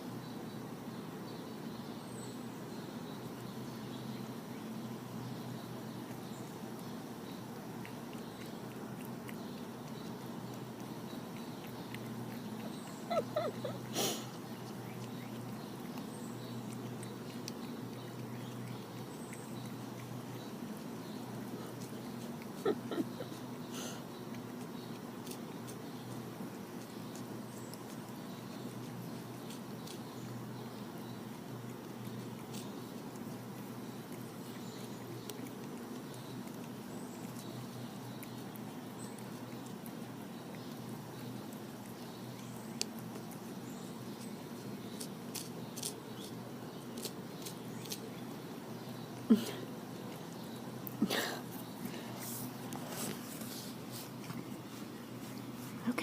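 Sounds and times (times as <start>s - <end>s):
cats licking: 5.6s - 56.0s.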